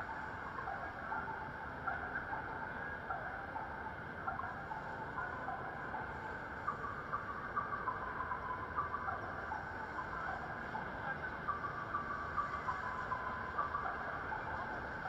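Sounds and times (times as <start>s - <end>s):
rain: 0.0s - 15.0s
traffic: 0.0s - 15.0s.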